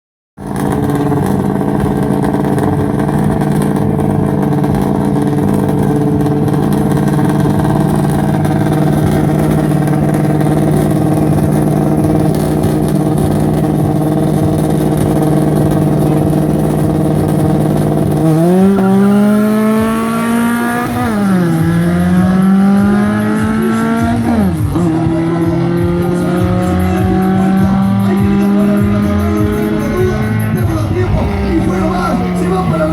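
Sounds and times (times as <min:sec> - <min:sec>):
race car engine revving: 0:00.4 - 0:32.9.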